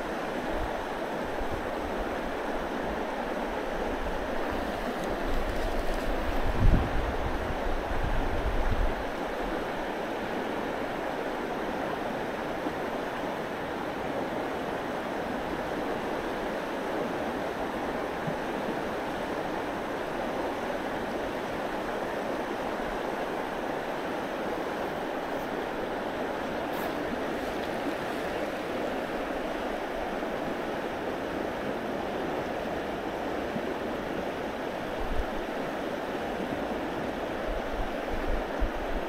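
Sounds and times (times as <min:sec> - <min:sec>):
flowing creek water: 0:00.0 - 0:39.0.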